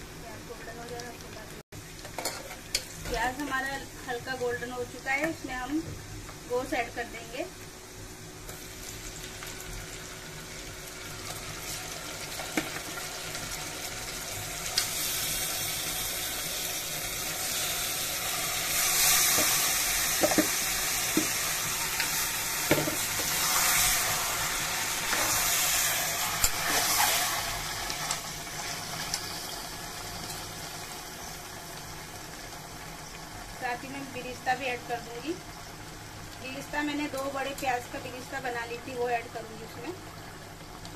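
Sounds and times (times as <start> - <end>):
meat sizzling in hot oil: 0.0 - 40.9.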